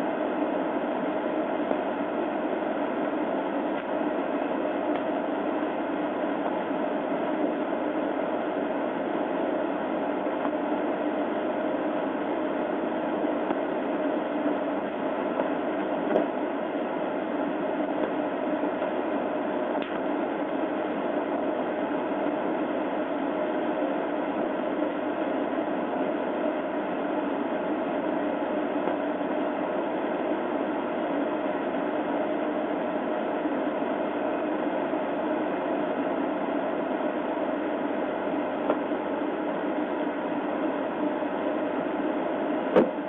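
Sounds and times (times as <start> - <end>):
static-like hiss: 0.0 - 43.0.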